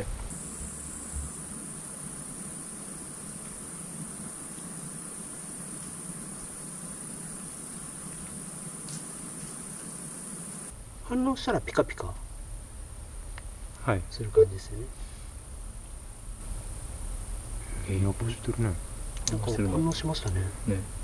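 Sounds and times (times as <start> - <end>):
faint background hiss: 0.0 - 21.0
insects trilling: 0.0 - 21.0.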